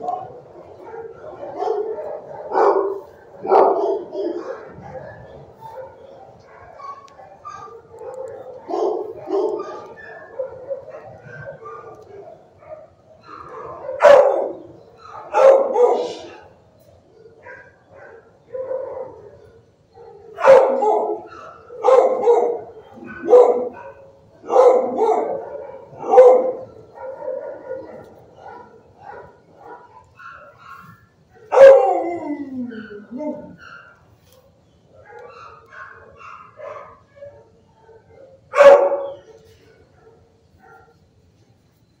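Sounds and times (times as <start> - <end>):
dog barking: 0.0 - 16.6, 17.3 - 34.0, 35.0 - 41.0.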